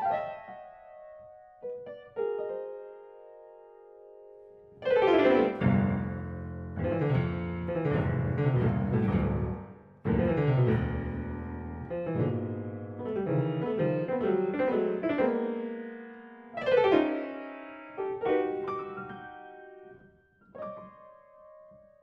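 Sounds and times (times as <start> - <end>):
solo piano music: 0.0 - 22.0.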